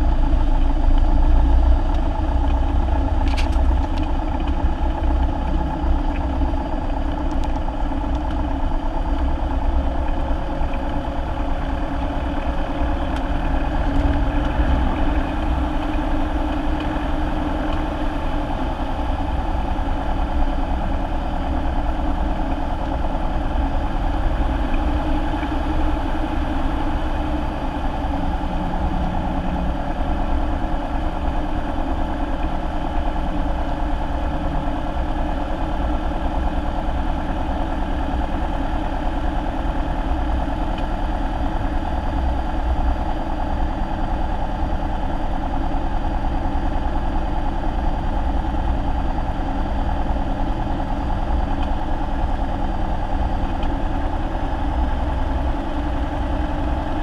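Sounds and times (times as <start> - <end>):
propeller engine idling drone: 0.0 - 57.0.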